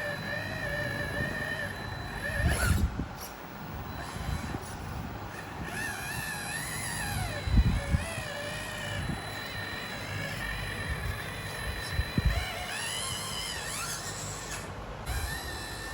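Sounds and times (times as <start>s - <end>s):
electric motor whining: 0.0s - 15.9s.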